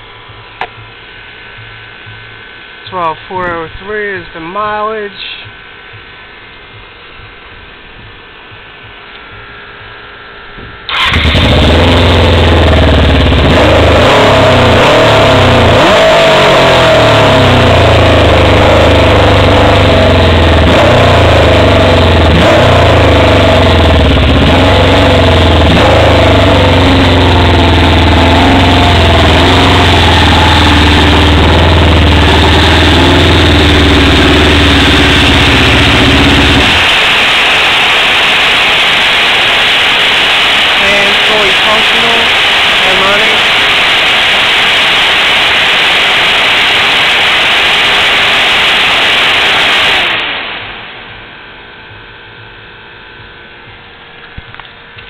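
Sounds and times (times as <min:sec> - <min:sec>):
motorcycle engine starting and running: 0:00.0 - 0:55.0.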